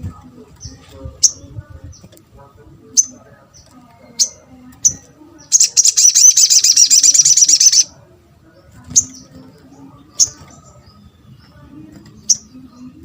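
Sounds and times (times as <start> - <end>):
bird trilling and calling: 0.2 - 8.0, 8.7 - 13.0.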